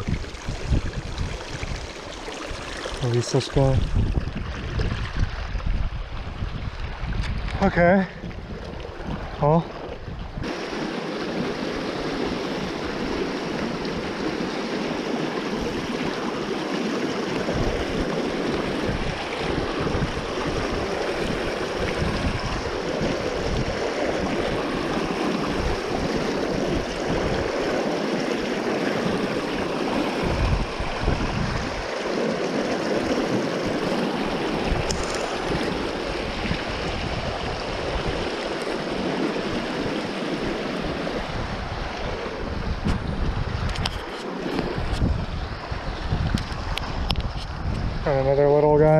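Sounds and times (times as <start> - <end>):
river flowing: 0.0 - 4.2, 8.7 - 47.1
wind buffeting microphone: 0.0 - 48.9.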